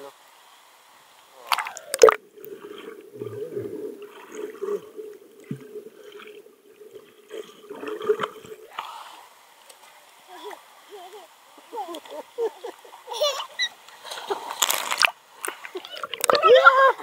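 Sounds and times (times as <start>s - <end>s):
water gurgling and sloshing: 1.4s - 13.0s, 14.5s - 16.6s.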